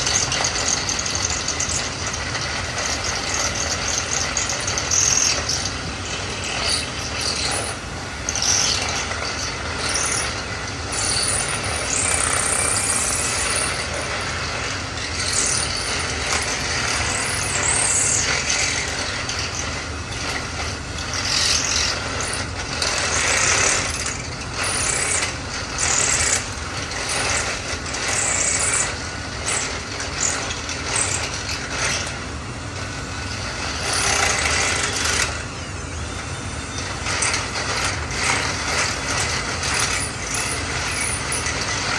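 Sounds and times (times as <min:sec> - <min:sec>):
power drill boring into wood: 0:00.0 - 0:05.6, 0:06.2 - 0:32.2, 0:33.2 - 0:35.4, 0:37.0 - 0:41.9.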